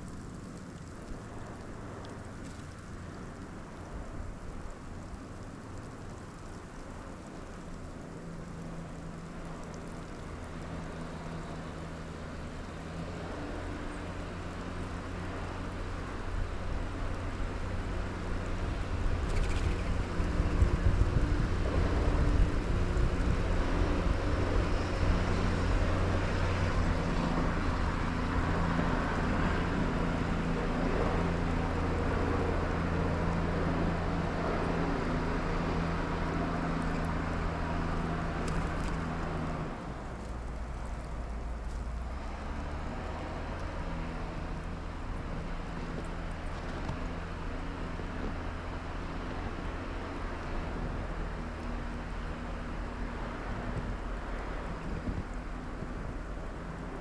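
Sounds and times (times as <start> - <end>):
low engine hum: 0.0 - 57.0.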